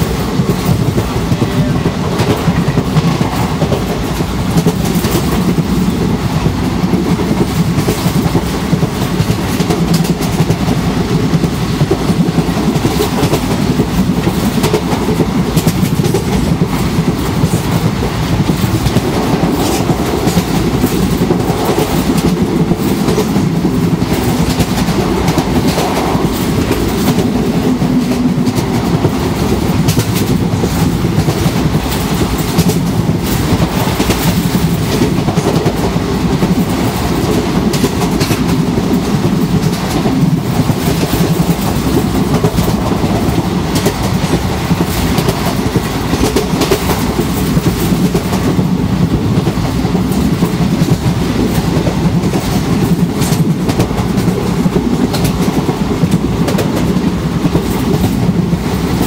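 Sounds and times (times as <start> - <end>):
rail joint clicks and clatter: 0.0 - 59.0
train wheels rumbling on track: 0.0 - 59.0.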